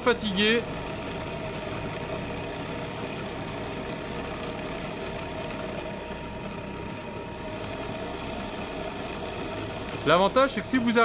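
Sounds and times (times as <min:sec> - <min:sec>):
drill bit boring into metal: 0:00.0 - 0:11.0
drill press motor: 0:00.0 - 0:11.0.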